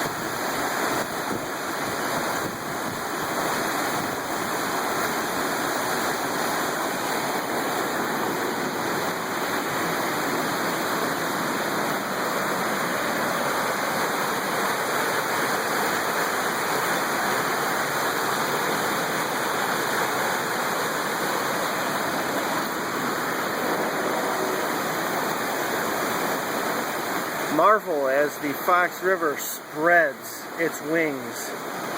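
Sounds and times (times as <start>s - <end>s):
river rushing: 0.0s - 31.9s.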